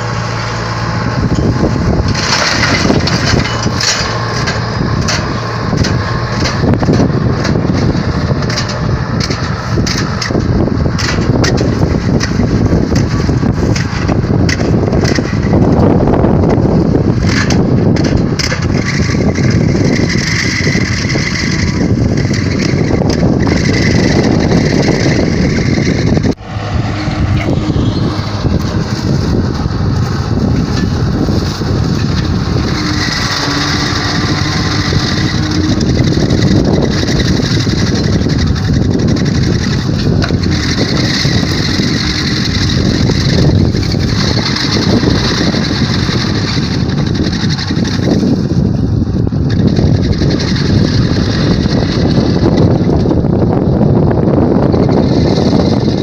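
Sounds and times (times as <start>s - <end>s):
mulcher rotor shredding soil: 0.0s - 56.0s
tractor engine under load: 0.0s - 56.0s.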